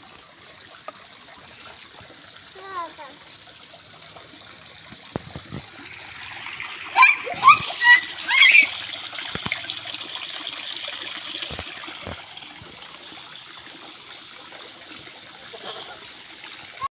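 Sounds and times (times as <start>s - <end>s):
fountain water trickling into pool: 0.0s - 16.9s.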